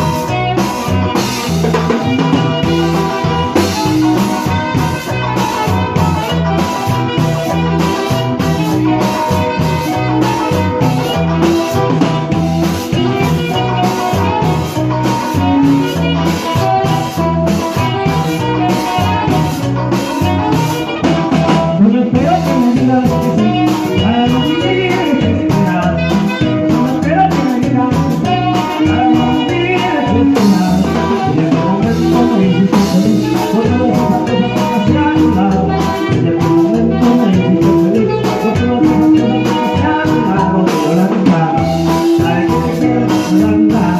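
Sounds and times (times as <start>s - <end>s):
drums keeping steady beat: 0.0s - 43.9s
latin dance band music: 0.0s - 43.9s.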